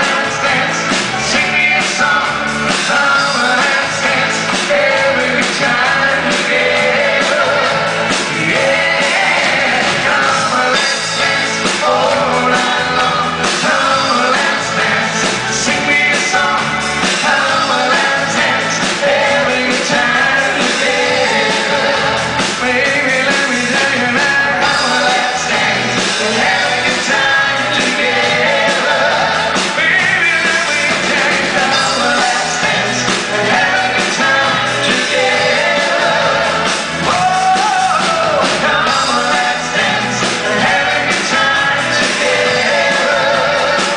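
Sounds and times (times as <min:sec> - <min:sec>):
live pop-rock band: 0:00.0 - 0:43.9.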